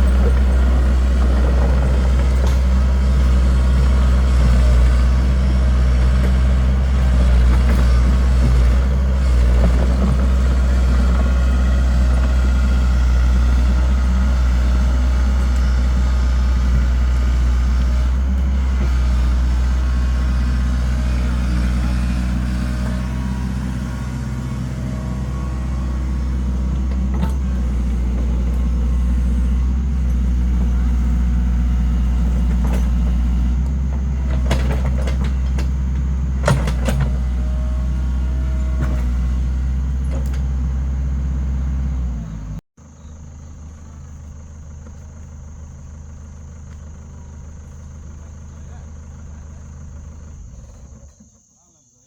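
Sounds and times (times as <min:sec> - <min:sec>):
engine running with low hum: 0:00.0 - 0:51.6.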